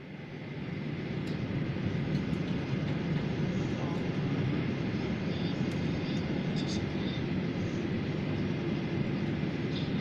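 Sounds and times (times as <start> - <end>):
jet cabin rumble: 0.0 - 10.0.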